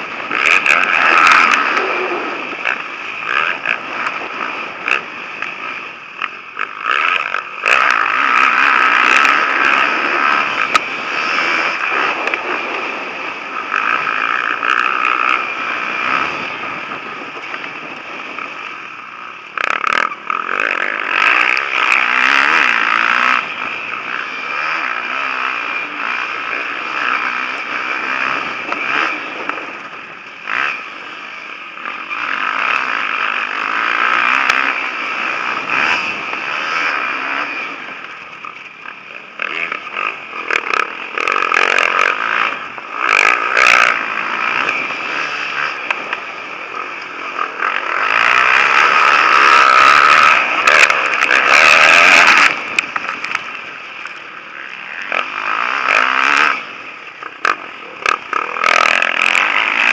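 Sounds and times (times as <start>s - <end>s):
motocross bike engines revving: 0.0s - 59.9s
sharp engine crackles: 0.0s - 59.9s.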